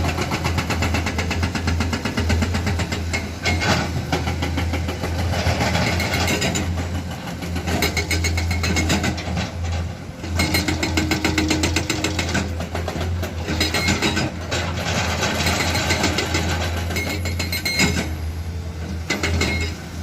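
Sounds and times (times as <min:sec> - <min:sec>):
earthmoving machine diesel engine: 0:00.0 - 0:20.0.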